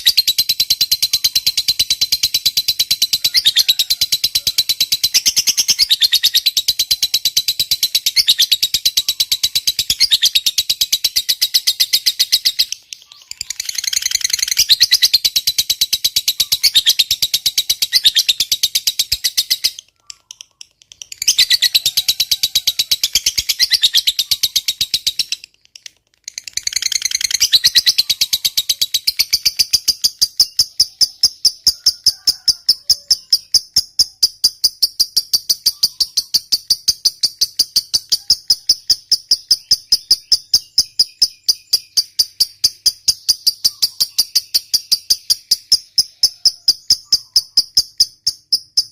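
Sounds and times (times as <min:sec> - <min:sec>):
lovebird chattering trill: 0:00.0 - 0:48.9.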